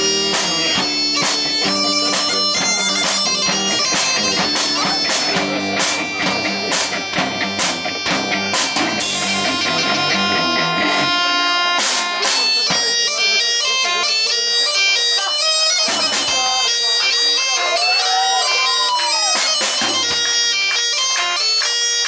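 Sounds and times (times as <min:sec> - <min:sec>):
drum kit beat: 0:00.0 - 0:16.9, 0:18.8 - 0:21.6
bagpipe melody: 0:00.0 - 0:22.0
guitars: 0:00.0 - 0:22.0.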